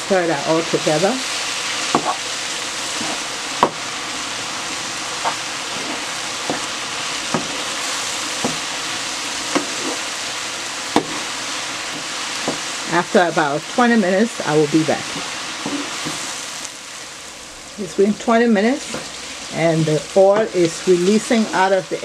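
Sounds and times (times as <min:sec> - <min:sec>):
eggplant sizzling in oil: 0:00.0 - 0:22.0.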